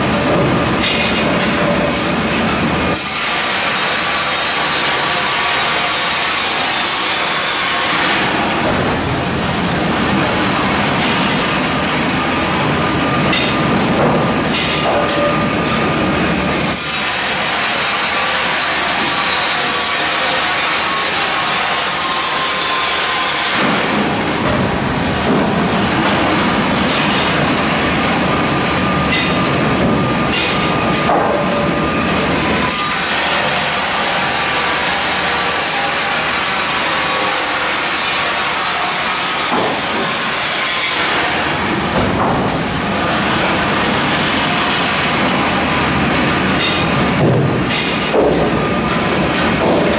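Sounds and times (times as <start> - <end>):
band sawmill sawing log: 0.0 - 49.9.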